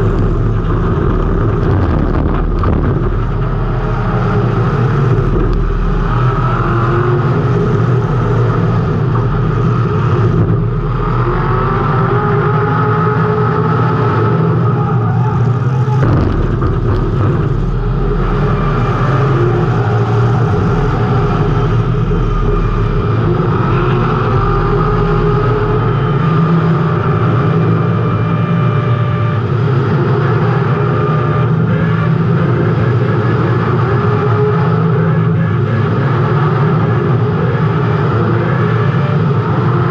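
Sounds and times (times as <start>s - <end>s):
chassis and track rumble: 0.0s - 39.9s
race car engine running hard: 0.0s - 39.9s.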